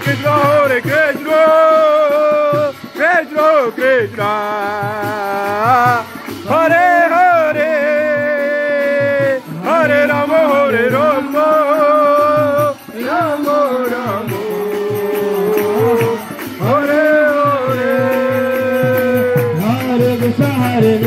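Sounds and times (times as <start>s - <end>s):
quick drum beat: 0.0s - 21.0s.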